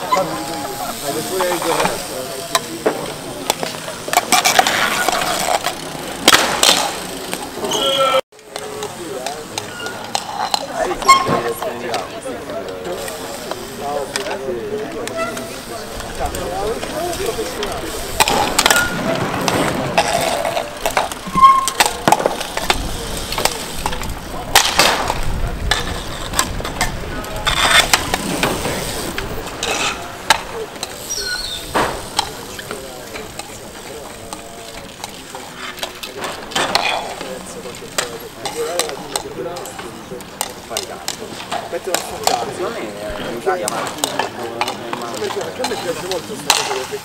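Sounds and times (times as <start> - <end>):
bicycles rolling: 0.0 - 47.0.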